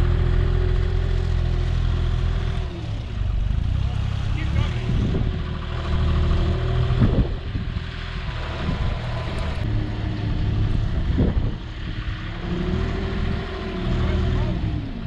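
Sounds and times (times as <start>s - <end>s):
forklift engine revving: 0.0s - 15.0s.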